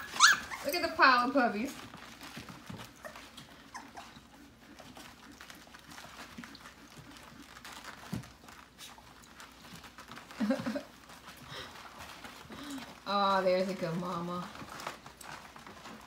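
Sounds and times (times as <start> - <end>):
puppies scrabbling on padding: 0.0 - 16.0.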